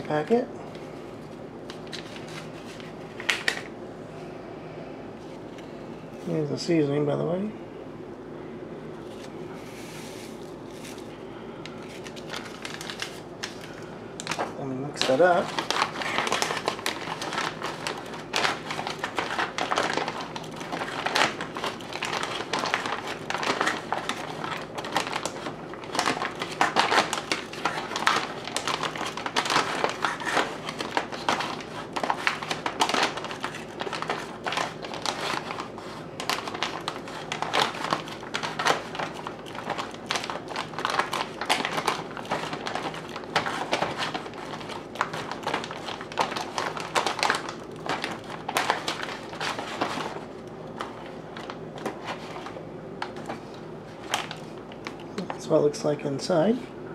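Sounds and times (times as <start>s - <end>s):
foil pouch crinkling: 1.6s - 3.7s, 9.0s - 55.5s.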